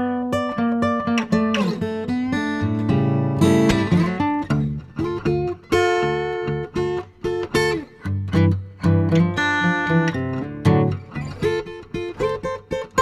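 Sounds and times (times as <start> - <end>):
acoustic guitar plucked and strummed: 0.0 - 13.0.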